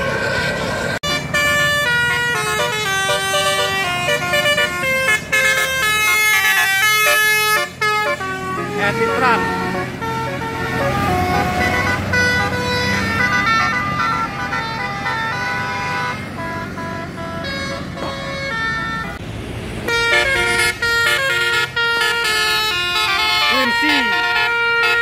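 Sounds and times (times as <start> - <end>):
musical air horn tune: 0.0 - 19.1, 19.9 - 25.0
bus engine running: 0.0 - 25.0.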